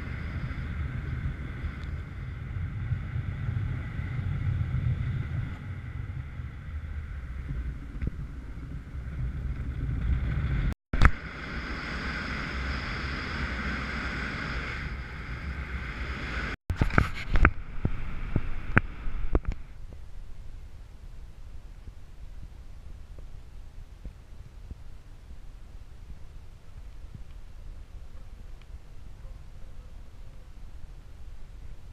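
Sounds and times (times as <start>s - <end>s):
wind buffeting microphone: 0.0s - 29.3s.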